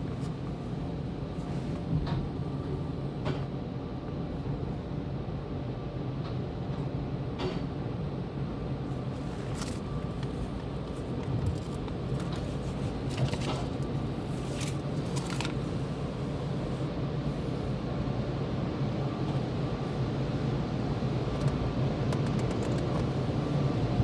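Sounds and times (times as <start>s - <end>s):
car wash equipment humming: 0.0s - 24.0s.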